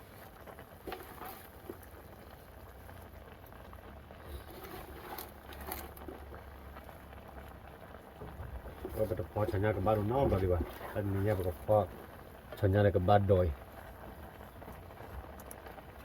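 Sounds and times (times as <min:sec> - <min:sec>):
water pattering and bubbling: 0:00.0 - 0:16.0.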